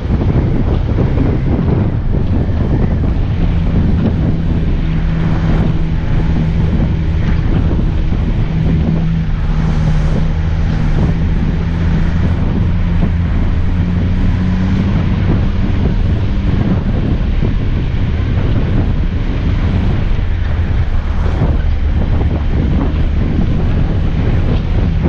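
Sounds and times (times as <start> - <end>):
engine humming at low speed: 0.0 - 25.0
wind on microphone: 0.0 - 25.0.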